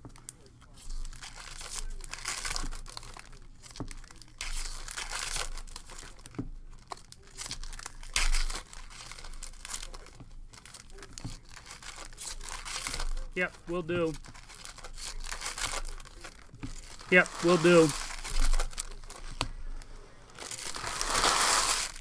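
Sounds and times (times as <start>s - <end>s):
foil wrappers tearing and crinkling: 0.0s - 22.0s.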